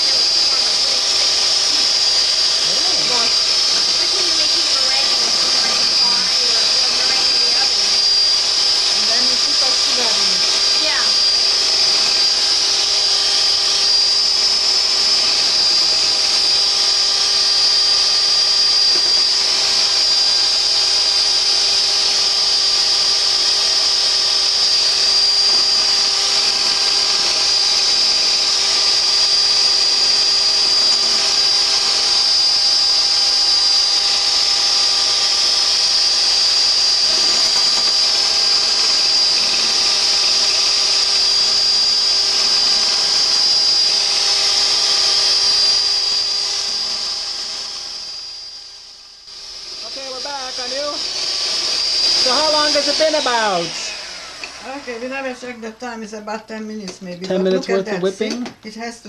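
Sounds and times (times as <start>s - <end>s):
electric mixer whining: 0.0s - 58.9s.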